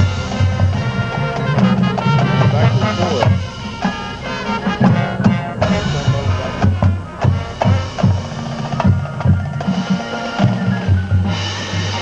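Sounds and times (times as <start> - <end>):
bass drum hits: 0.0 - 9.8
marching band playing: 0.0 - 12.0.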